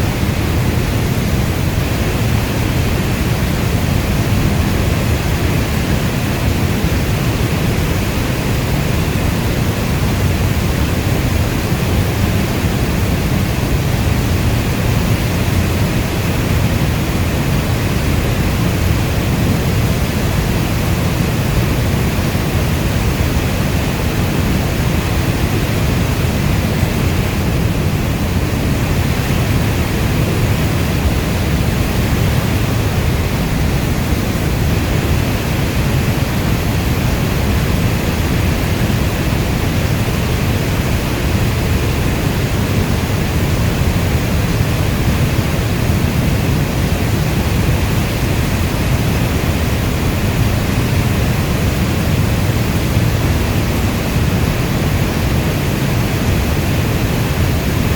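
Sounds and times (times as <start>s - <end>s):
heavy rainstorm: 0.0s - 57.9s.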